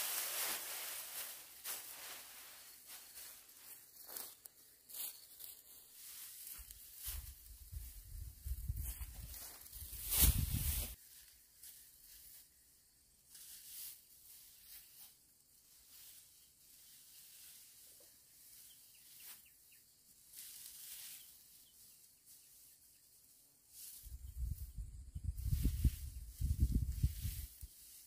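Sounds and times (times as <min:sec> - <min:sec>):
dry straw rustling: 0:00.0 - 0:12.6, 0:13.3 - 0:28.0.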